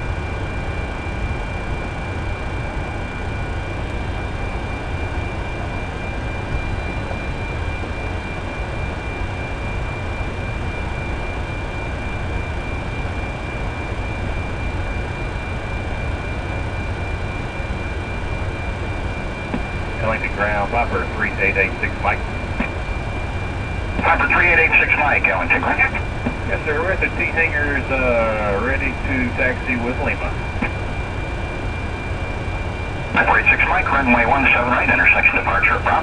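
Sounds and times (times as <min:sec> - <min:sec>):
aircraft cockpit rumble and hiss: 0:00.0 - 0:36.0
high-pitched systems whine: 0:00.1 - 0:36.0.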